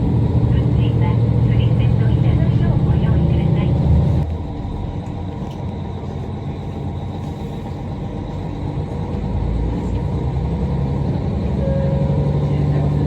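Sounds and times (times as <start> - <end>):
diesel engine hum: 0.0 - 13.0
train low rumble: 0.0 - 13.0.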